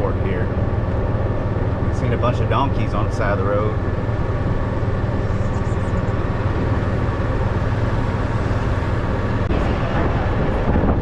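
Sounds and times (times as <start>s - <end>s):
golf cart driving: 0.0s - 11.0s
low hum: 0.0s - 11.0s.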